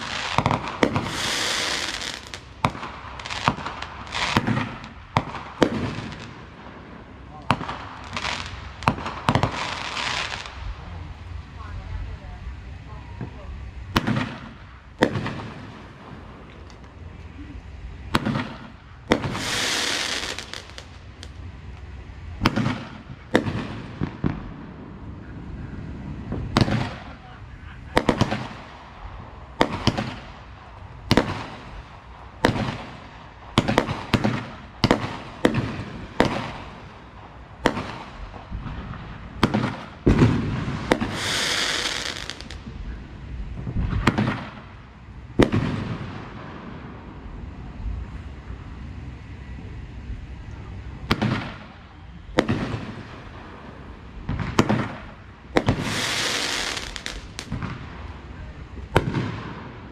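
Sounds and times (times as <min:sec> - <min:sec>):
fireworks banging: 0:00.0 - 0:59.9
fireworks hissing: 0:00.0 - 0:59.9.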